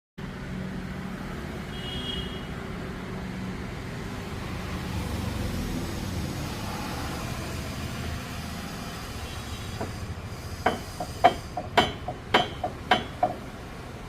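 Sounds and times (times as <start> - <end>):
car engine and road noise: 0.2 - 14.0.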